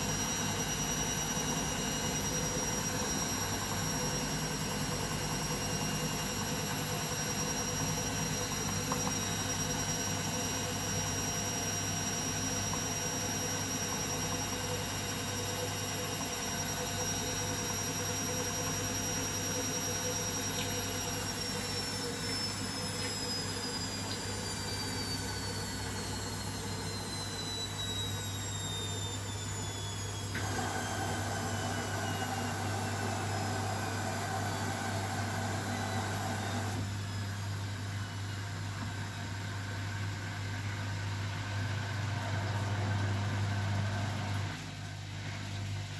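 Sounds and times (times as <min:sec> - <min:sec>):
washing machine motor whine: 0:00.0 - 0:45.9.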